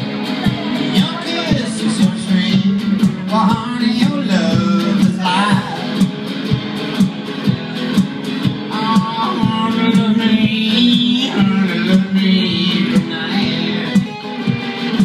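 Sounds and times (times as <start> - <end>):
electric guitar over a beat: 0.0 - 15.0.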